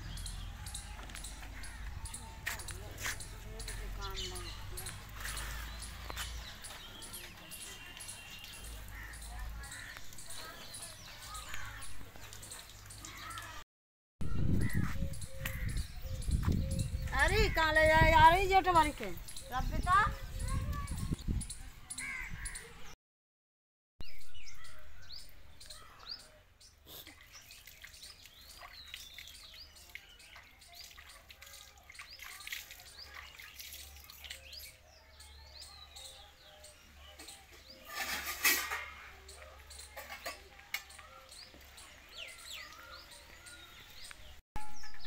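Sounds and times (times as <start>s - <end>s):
birds chirping and calling: 0.0s - 13.6s, 14.2s - 23.0s, 24.0s - 45.0s.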